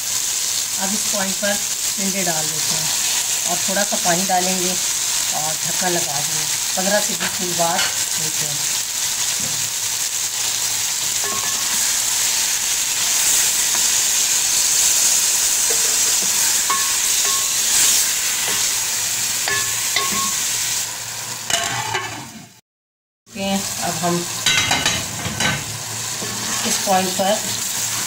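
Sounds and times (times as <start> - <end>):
vegetables sizzling in oil: 0.0 - 22.6, 23.3 - 28.0.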